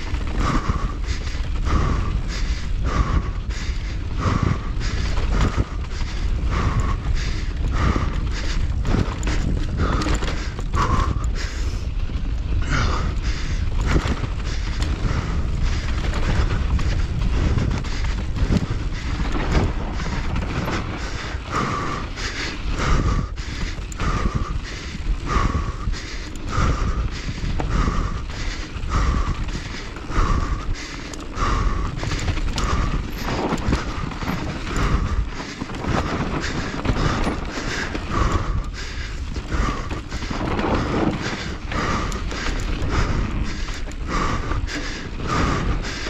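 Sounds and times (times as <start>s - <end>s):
bike frame rattling and knocking: 0.0s - 46.0s
wind rushing over microphone: 0.0s - 46.0s.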